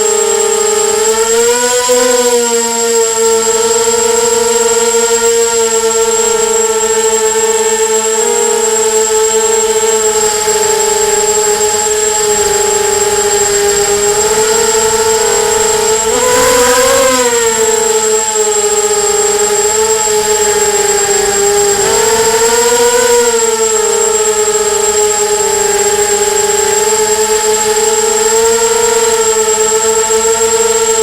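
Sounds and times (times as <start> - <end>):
quadcopter motors whining: 0.0 - 31.0.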